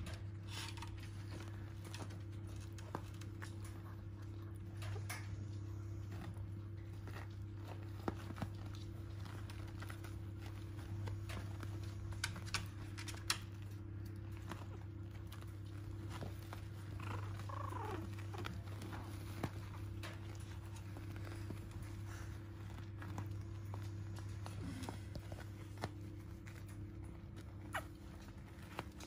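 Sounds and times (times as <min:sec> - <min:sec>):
puppies rustling on dog beds: 0:00.0 - 0:29.0
steady low hum: 0:00.0 - 0:29.0.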